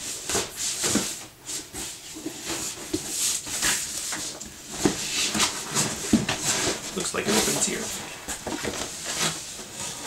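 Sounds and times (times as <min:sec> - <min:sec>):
cardboard box rustling and scraping: 0:00.1 - 0:10.0.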